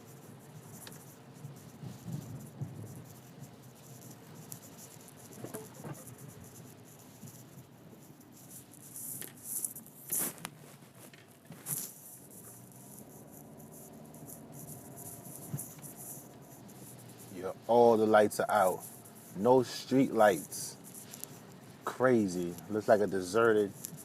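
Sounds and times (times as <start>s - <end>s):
car road and engine hum: 0.0s - 10.0s, 11.4s - 23.5s.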